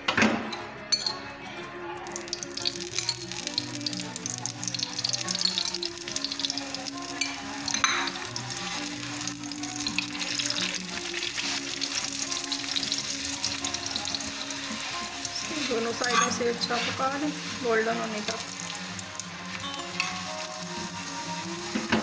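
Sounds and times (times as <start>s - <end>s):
background music: 0.0s - 22.0s
flatbread sizzling on a pan: 2.2s - 22.0s.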